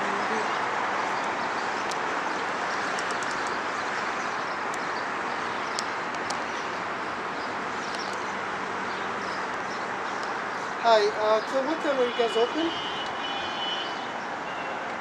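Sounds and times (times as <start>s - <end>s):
outdoor background rush: 0.0s - 15.0s.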